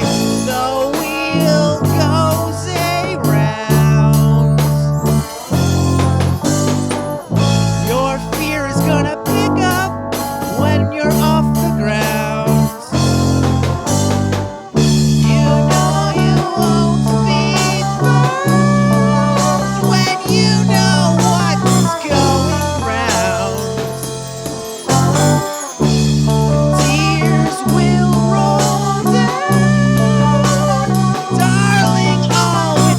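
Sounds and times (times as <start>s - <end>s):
electric guitar with bent notes: 0.0s - 32.9s
sustained low bass notes: 0.0s - 32.9s.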